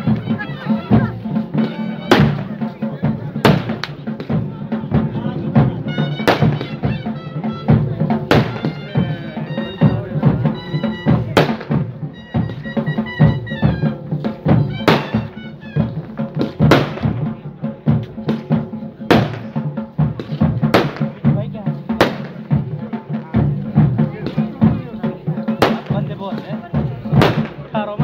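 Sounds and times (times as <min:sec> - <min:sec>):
drums beaten steadily: 0:00.0 - 0:28.0.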